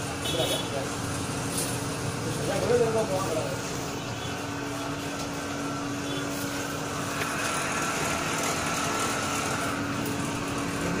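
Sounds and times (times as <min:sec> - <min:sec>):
machine mechanical hum: 0:00.0 - 0:11.0.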